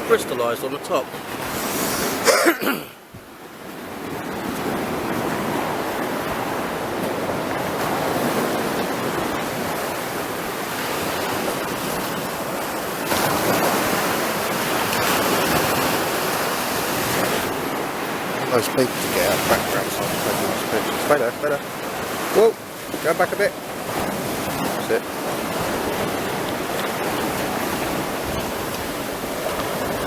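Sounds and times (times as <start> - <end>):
sea waves washing on beach: 0.0 - 30.0.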